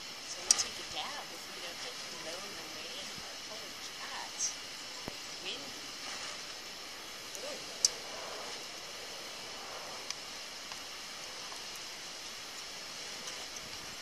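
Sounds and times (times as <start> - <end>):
wind hissing: 0.0 - 14.0.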